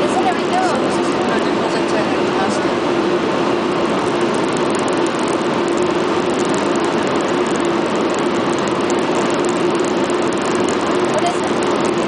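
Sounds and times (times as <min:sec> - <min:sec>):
car wash blowers droning: 0:00.0 - 0:12.0.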